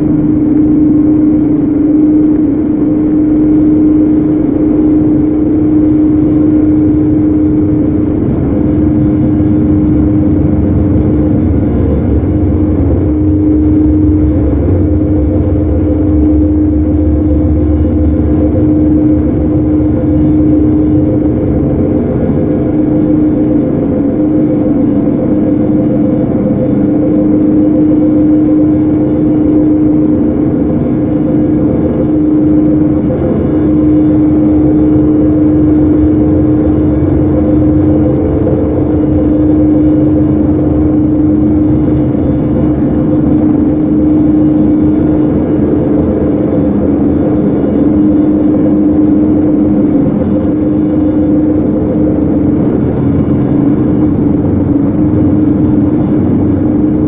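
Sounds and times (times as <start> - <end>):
electronic drone tones: 0.0 - 57.0
rumbling noise bed: 0.0 - 57.0.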